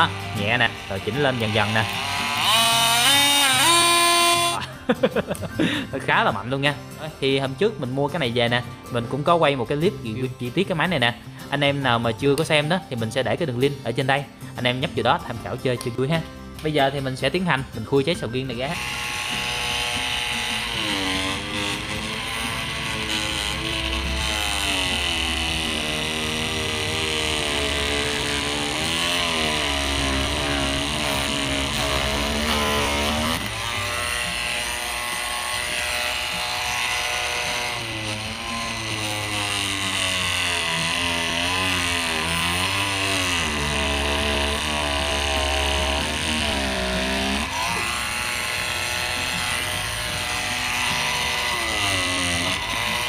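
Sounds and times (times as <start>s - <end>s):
oscillating multi-tool cutting: 0.0s - 5.5s, 14.7s - 53.0s.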